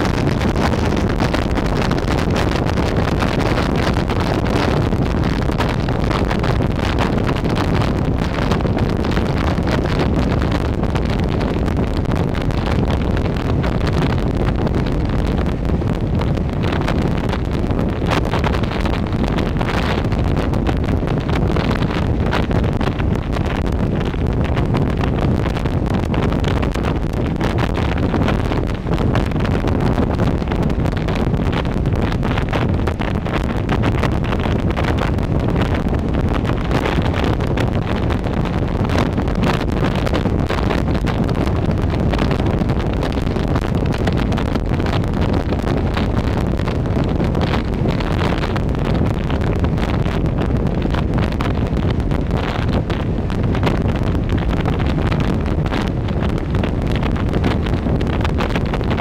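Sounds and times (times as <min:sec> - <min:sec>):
low engine and road rumble: 0:00.0 - 0:59.0
wind buffeting microphone: 0:00.0 - 0:59.0.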